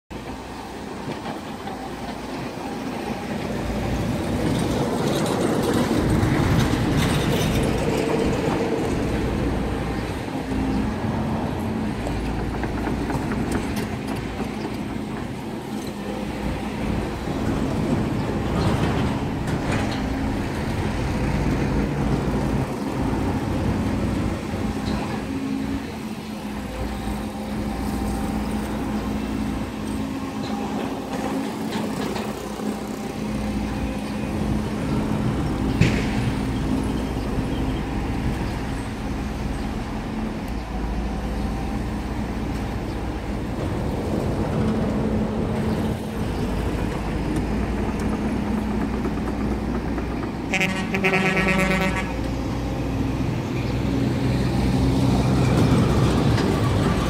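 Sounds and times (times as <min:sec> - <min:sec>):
excavator engine and hydraulics: 0:00.1 - 0:57.0.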